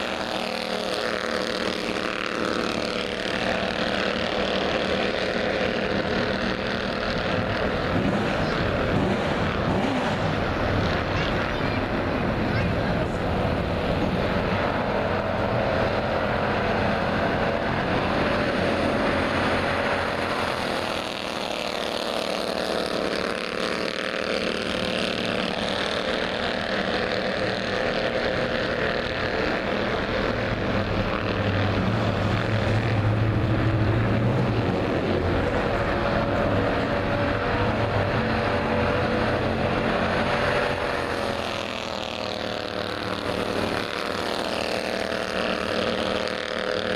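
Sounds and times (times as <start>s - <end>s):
race car engines droning: 0.0s - 46.9s.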